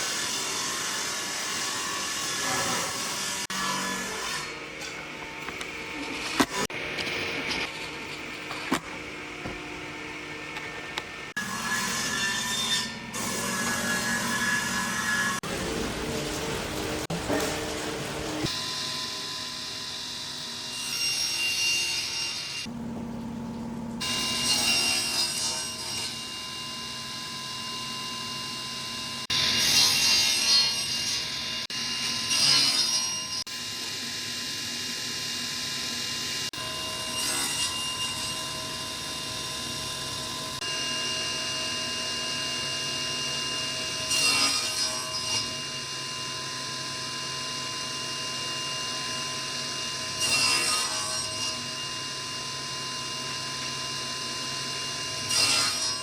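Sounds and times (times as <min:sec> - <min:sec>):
power tool cutting wood: 0:00.0 - 0:22.7, 0:24.0 - 0:56.0.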